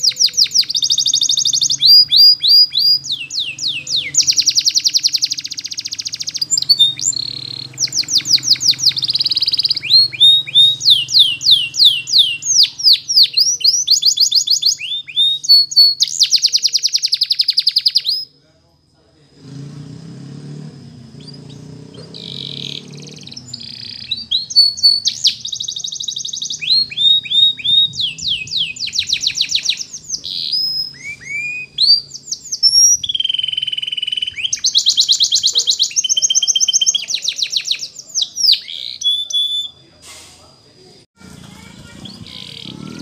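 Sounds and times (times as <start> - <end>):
canary singing: 0.0 - 18.4, 20.1 - 40.0, 41.2 - 43.0.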